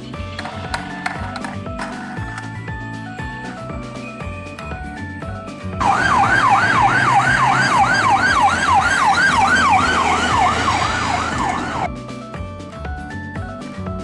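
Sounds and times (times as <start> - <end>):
background music: 0.0 - 14.0
ambulance siren wailing: 0.2 - 11.9.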